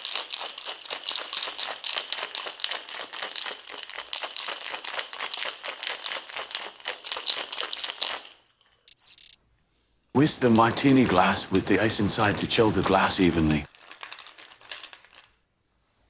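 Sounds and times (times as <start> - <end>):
ice rattling in cocktail shaker: 0.0 - 9.4, 10.2 - 15.4.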